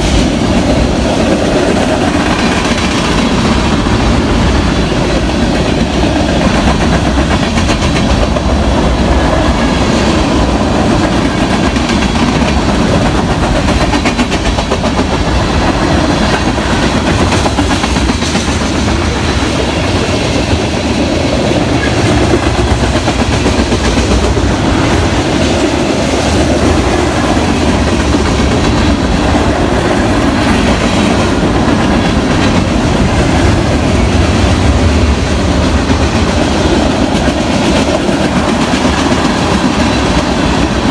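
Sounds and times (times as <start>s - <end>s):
train wheels clacking over rail joints: 0.0s - 40.9s.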